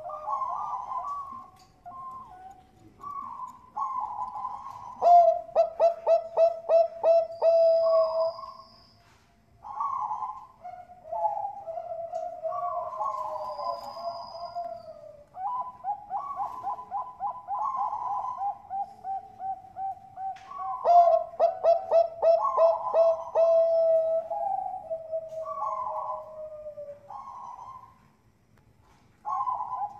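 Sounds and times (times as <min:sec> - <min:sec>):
doves cooing: 0:00.0 - 0:08.6, 0:09.6 - 0:28.2, 0:28.8 - 0:29.9.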